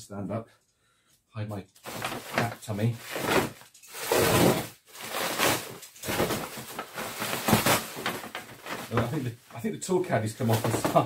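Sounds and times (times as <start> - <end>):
bubble wrap rustling and crinkling: 1.8 - 11.0.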